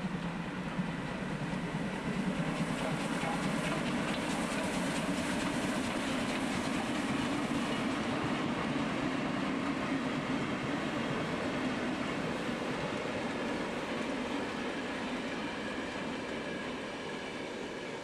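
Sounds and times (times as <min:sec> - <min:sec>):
steam train rumbling past: 0:00.0 - 0:18.0.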